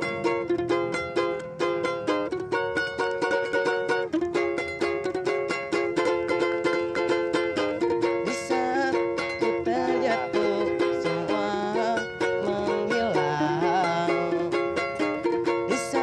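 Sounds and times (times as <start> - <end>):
ukulele strumming: 0.0 - 16.0.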